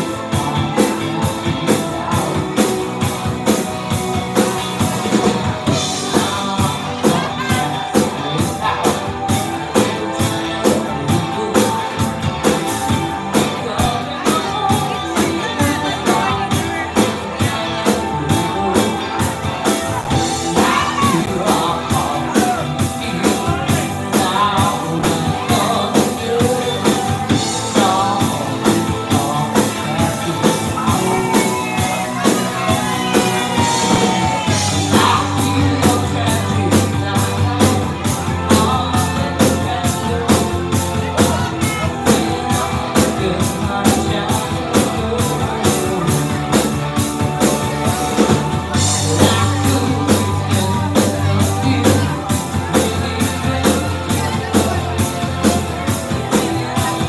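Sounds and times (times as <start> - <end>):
drum kit beat on cymbals: 0.0 - 57.0
live rock band playing: 0.0 - 57.0.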